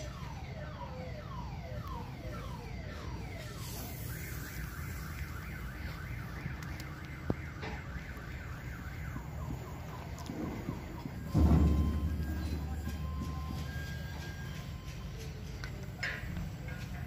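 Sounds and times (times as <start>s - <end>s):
vehicle alarm siren: 0.0s - 17.0s.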